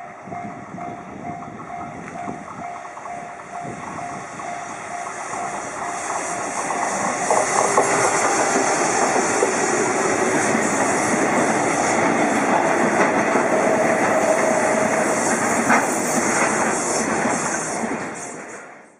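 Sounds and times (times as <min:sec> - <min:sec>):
train passing wheel-on-rail rush: 0:00.0 - 0:18.9.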